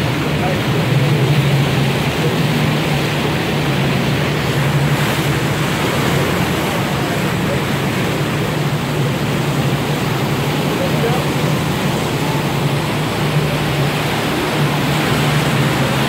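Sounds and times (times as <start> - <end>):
boat engine humming: 0.0 - 16.0
water rushing in wake: 0.0 - 16.0.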